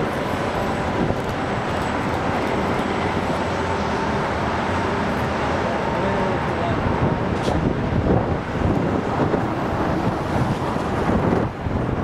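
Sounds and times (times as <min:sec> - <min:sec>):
road traffic: 0:00.0 - 0:12.0
train rumble: 0:00.0 - 0:12.0.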